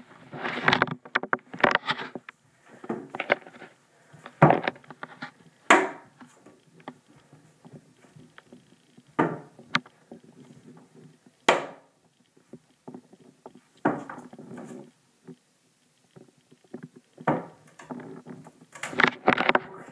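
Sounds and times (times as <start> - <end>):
rustling: 0.0 - 19.9.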